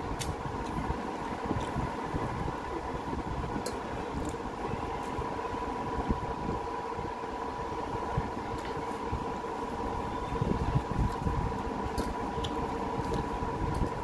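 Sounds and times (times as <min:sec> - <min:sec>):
electric fan humming: 0:00.0 - 0:14.0.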